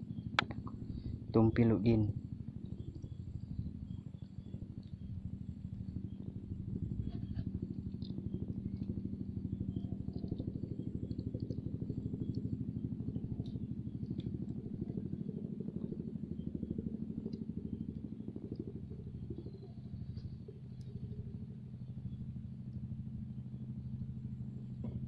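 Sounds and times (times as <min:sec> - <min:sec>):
small engine running: 0:00.0 - 0:25.0
faint ticks: 0:02.6 - 0:24.0.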